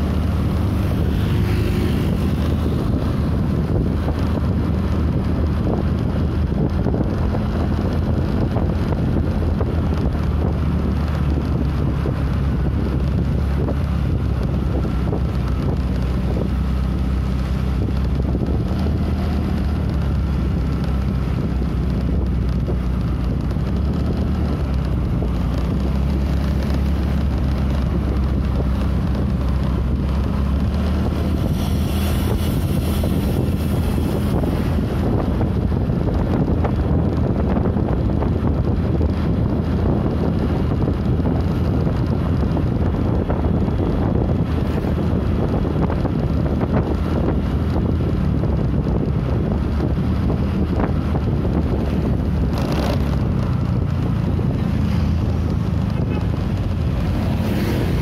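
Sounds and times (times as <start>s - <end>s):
motorcycle engine humming: 0.0s - 58.0s
wind noise on microphone: 0.0s - 58.0s.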